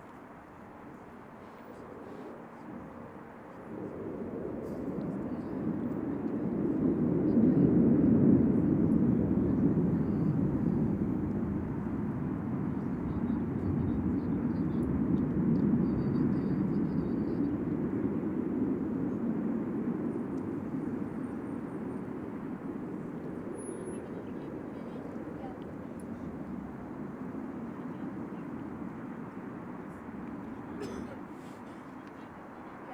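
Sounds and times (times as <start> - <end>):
jet aircraft flying past: 0.3 - 32.9.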